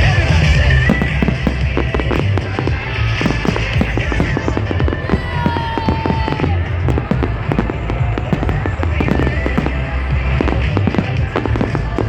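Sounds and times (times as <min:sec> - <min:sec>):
fireworks bangs and crackles: 0:00.0 - 0:12.0
loud music with heavy bass: 0:00.0 - 0:12.0.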